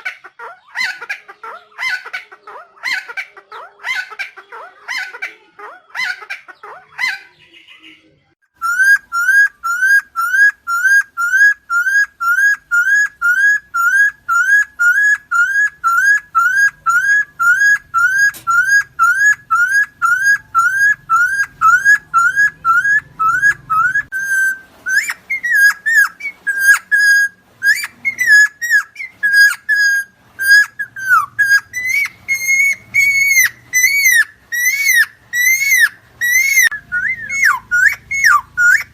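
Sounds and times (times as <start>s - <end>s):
bird calling: 0.0s - 38.9s.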